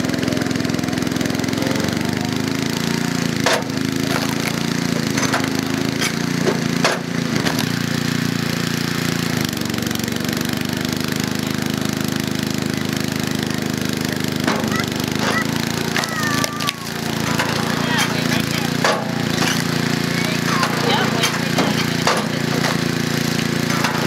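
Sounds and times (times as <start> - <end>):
generator engine running: 0.0 - 24.0.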